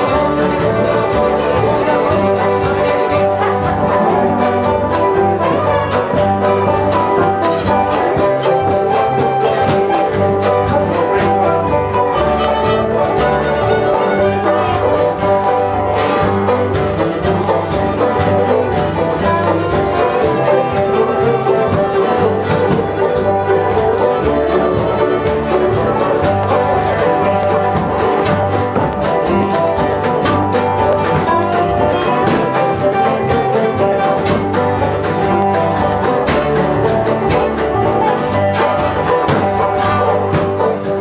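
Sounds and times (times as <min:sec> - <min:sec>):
fiddle: 0:00.0 - 0:41.0
picked banjo: 0:00.0 - 0:41.0
strummed guitar: 0:00.0 - 0:41.0
upright bass walking: 0:00.0 - 0:41.0.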